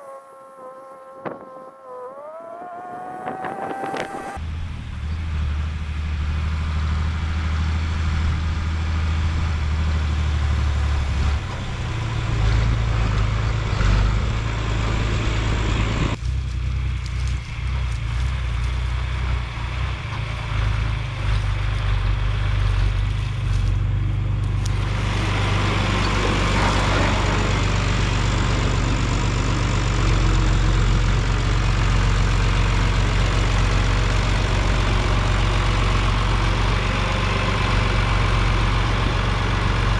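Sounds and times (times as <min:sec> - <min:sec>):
tractor engine running: 0:02.8 - 0:39.9.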